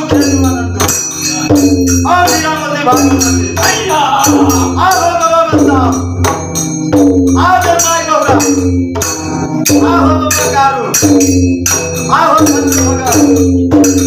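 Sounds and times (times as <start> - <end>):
drum beat: 0.0 - 14.0
hand cymbals clashing: 0.0 - 14.0.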